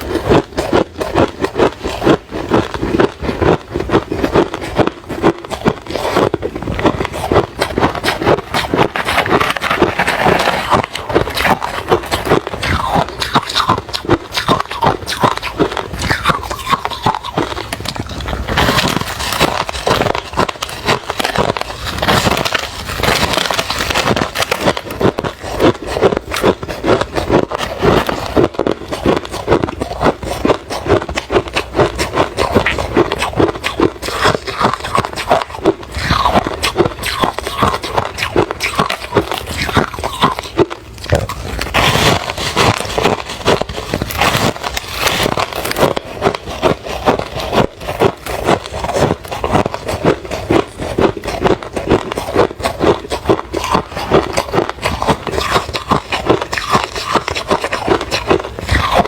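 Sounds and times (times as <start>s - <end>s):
chewing crushed ice: 0.0s - 59.0s.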